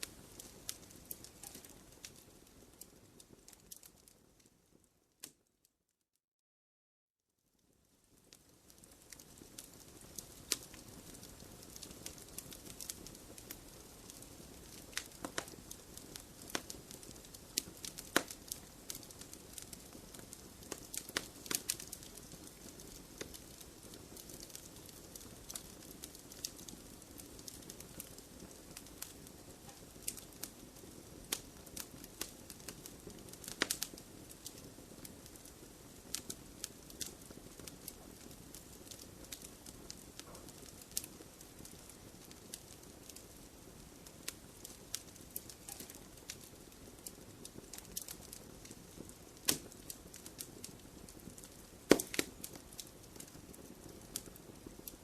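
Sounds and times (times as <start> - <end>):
wood fire hissing: 0.0 - 4.4, 8.1 - 55.0
fire crackles and pops: 0.0 - 5.5, 7.5 - 55.0.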